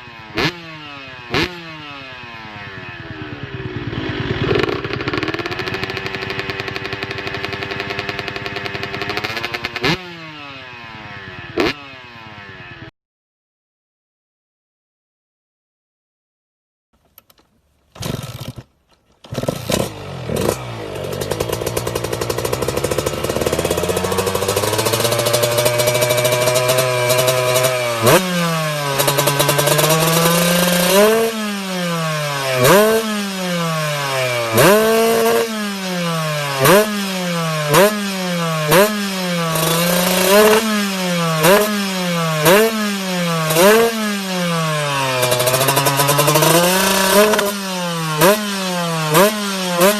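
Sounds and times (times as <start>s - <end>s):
motorcycle engine idling and revving: 0.0s - 12.9s, 18.0s - 49.9s.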